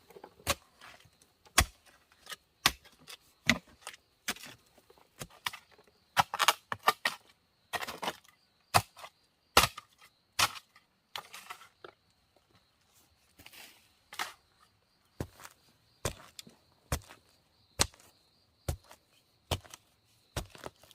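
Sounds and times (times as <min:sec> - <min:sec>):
faint high insect hum: 0:00.0 - 0:20.9.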